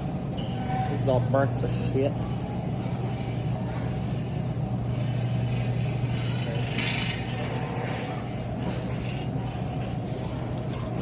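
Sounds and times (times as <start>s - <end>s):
store background hum: 0.0s - 11.0s.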